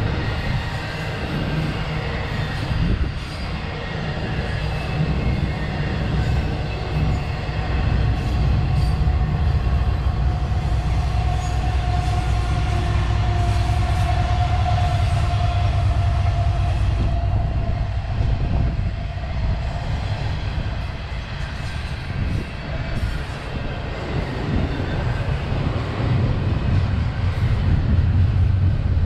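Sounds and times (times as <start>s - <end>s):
freight train wheels rumbling: 0.0s - 29.0s.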